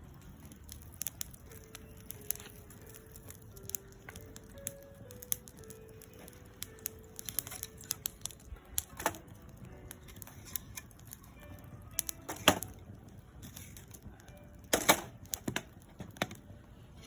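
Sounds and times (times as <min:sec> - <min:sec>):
faint background music: 0:00.0 - 0:17.0
wood fire crackling: 0:00.0 - 0:17.0.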